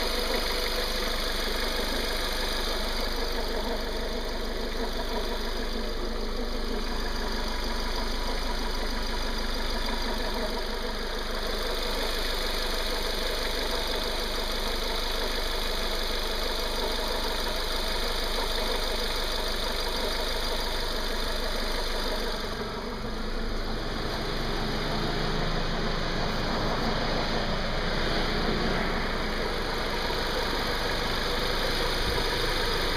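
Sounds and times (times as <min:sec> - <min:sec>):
car engine idling: 0:00.0 - 0:32.9
strange engine noise: 0:00.0 - 0:32.9.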